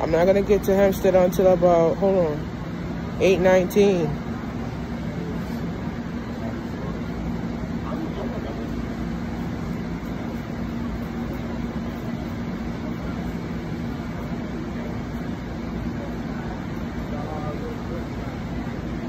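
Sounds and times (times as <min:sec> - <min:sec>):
low two-tone hum: 0:00.0 - 0:19.0.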